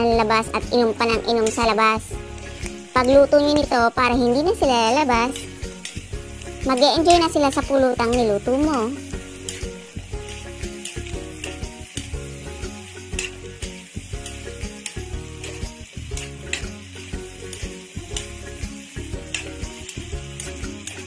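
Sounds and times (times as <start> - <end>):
tofu sizzling in a wok: 0.0 - 21.0.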